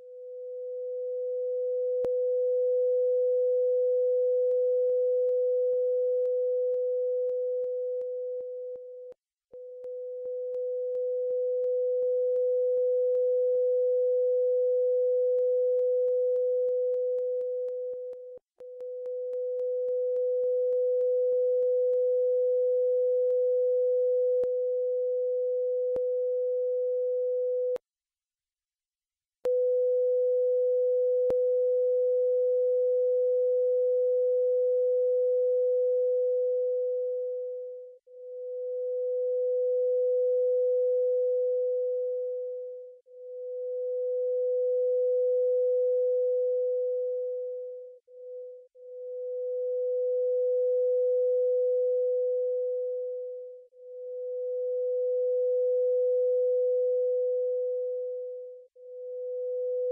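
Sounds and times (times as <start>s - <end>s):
steady sine tone: 0.0s - 27.8s, 29.4s - 59.9s.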